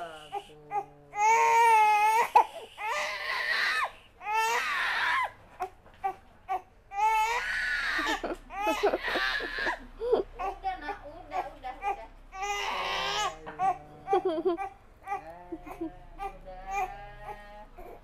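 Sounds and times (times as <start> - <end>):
baby crying: 0.0 - 10.6, 11.8 - 13.8, 14.5 - 18.0.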